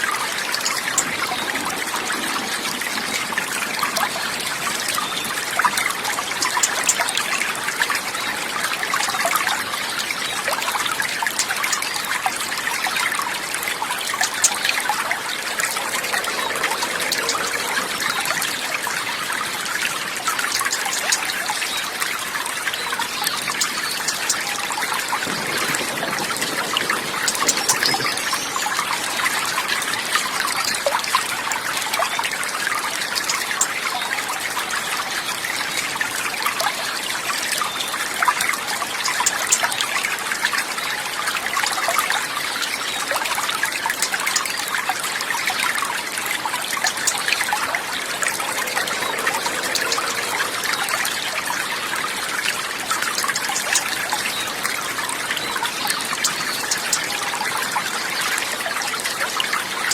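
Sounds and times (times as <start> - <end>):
water trickling and babbling: 0.0 - 59.9.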